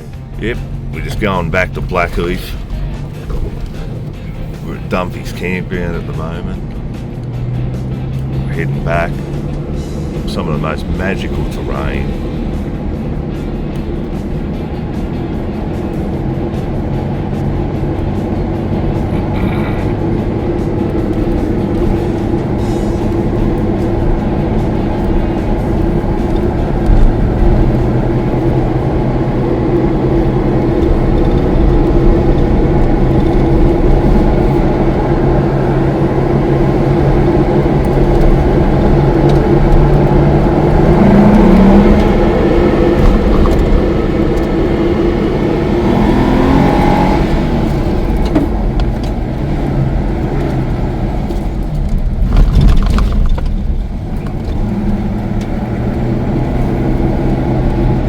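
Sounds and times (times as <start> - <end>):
car engine: 0.0 - 58.0
road noise inside car: 0.0 - 58.0.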